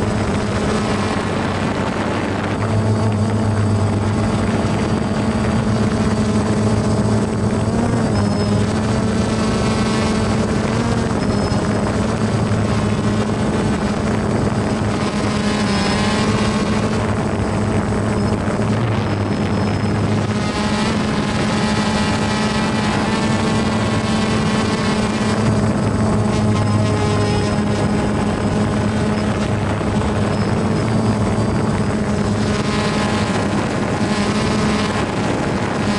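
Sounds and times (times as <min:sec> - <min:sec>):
drone propellers buzzing: 0:00.0 - 0:35.9.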